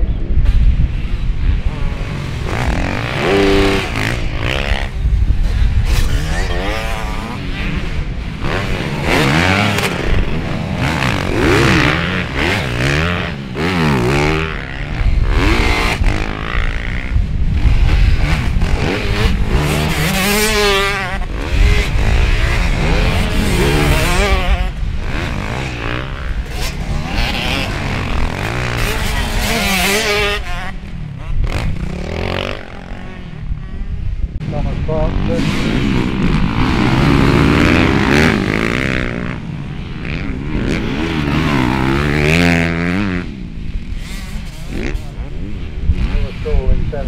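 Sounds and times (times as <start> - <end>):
motocross bikes revving: 0.0 - 47.0.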